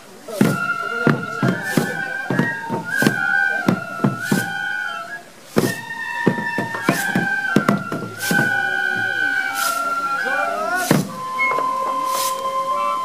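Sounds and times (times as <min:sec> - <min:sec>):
bamboo flutes playing: 0:00.0 - 0:13.0
small drum strokes: 0:00.0 - 0:13.0.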